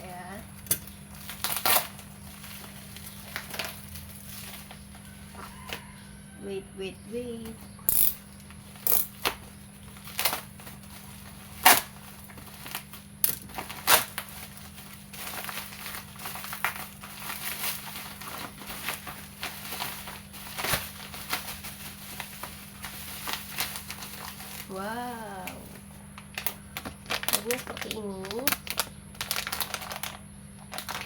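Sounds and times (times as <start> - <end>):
crackly rustling: 0.0 - 6.3, 7.4 - 31.0
packaging crinkling and tearing: 0.1 - 6.0, 8.4 - 31.0.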